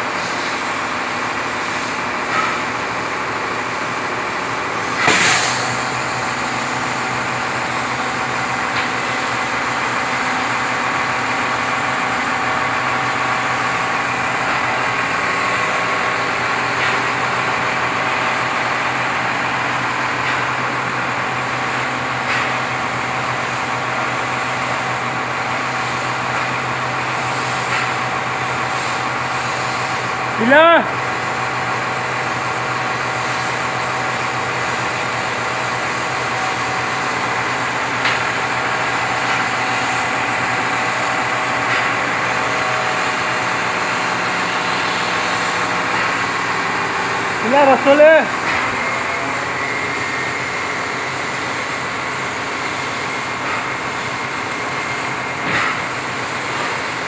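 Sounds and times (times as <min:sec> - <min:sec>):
crane diesel engine running: 0:00.0 - 0:57.0.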